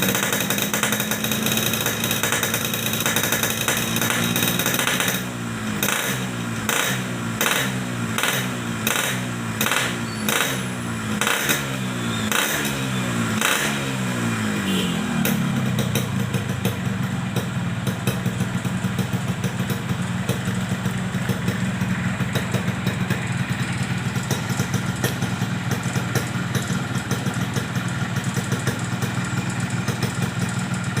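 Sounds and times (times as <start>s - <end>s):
two-stroke motorcycle engine revving: 0.0s - 31.0s.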